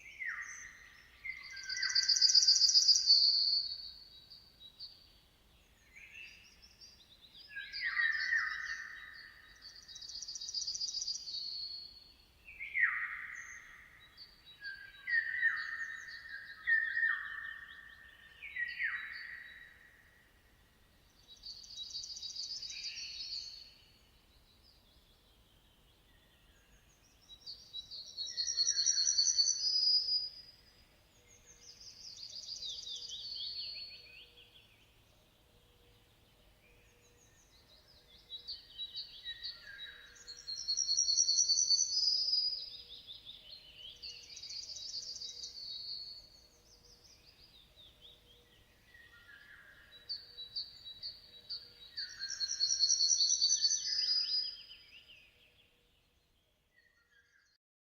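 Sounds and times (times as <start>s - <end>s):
songbird singing trilled phrases: 0.0s - 20.0s, 21.1s - 35.1s, 36.0s - 57.6s.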